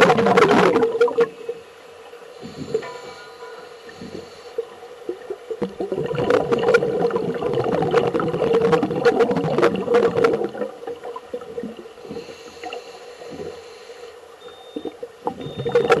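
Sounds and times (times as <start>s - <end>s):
underwater exhaled air bubbling: 0.0s - 1.5s, 2.4s - 13.7s, 14.8s - 16.0s.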